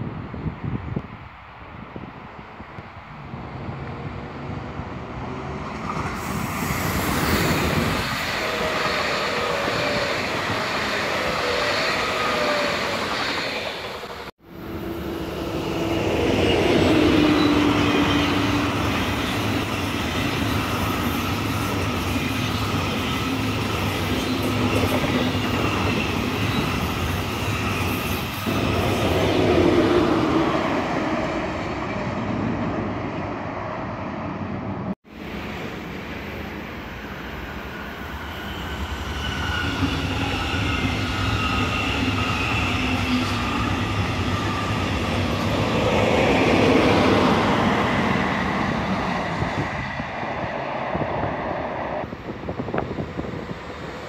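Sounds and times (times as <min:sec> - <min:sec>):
train wheels rumbling on rails: 0:00.7 - 0:54.0.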